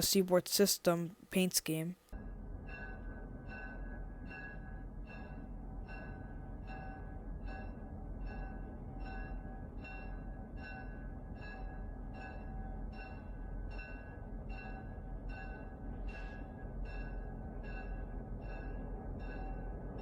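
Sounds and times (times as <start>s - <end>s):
low rumble of a train: 2.1s - 20.0s
railway bell ringing: 2.1s - 20.0s.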